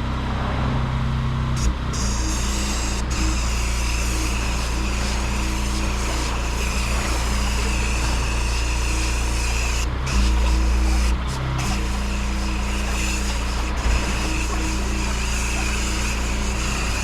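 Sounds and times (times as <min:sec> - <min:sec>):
pressure washer engine running: 0:01.6 - 0:17.0
water jet spraying paving: 0:01.6 - 0:17.0.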